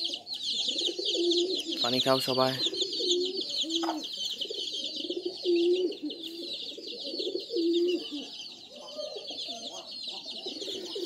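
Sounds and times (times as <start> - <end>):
high-pitched chirping: 0.0 - 11.0
pigeons cooing: 0.0 - 11.0.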